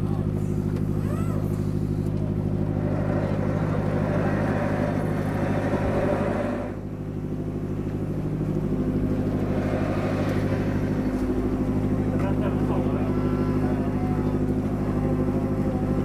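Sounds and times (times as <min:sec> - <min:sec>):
motor engine humming: 0:00.0 - 0:16.0.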